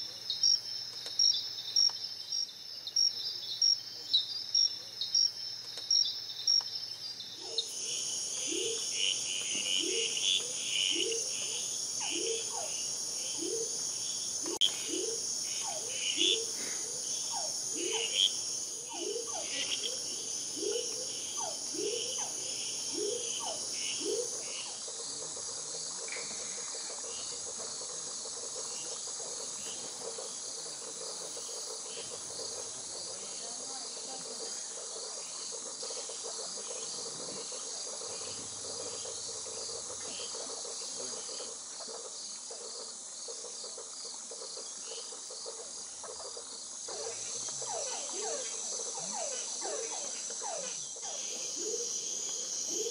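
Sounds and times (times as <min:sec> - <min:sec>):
high-pitched insect trill: 0:00.0 - 0:52.9
frog calling: 0:07.3 - 0:52.9.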